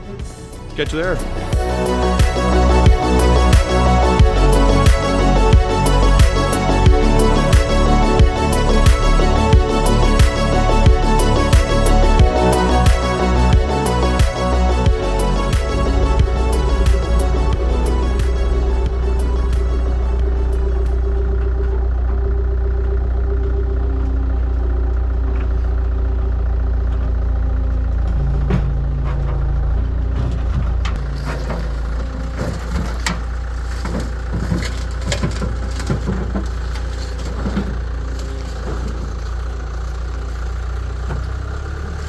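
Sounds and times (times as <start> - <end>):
heavy diesel engine idling: 0.0 - 30.2, 31.0 - 42.0.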